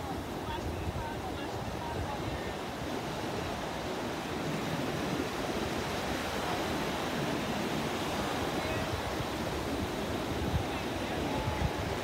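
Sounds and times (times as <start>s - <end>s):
ocean surf rushing: 0.0s - 12.0s
wind buffeting microphone: 0.0s - 12.0s.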